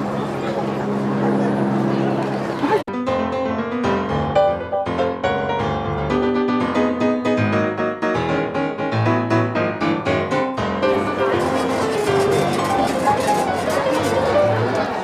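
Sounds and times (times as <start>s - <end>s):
piano music: 2.9s - 15.0s.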